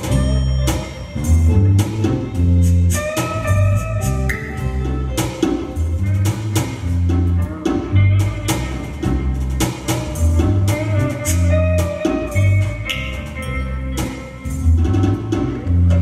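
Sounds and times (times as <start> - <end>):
drum kit beat: 0.0 - 16.0
electric bass line: 0.0 - 16.0
electric guitar: 0.0 - 16.0.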